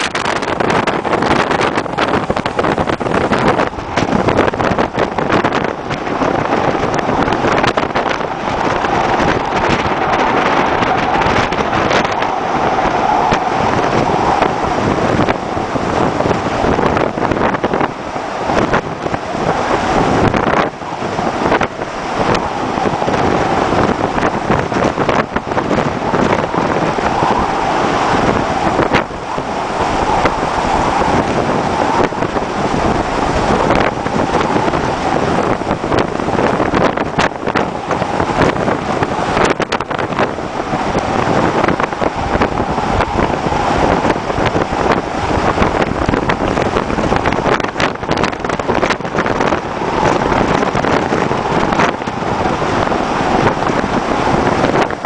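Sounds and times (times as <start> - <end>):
waves washing over deck: 0.0 - 55.0
wind buffeting microphone: 0.0 - 55.0.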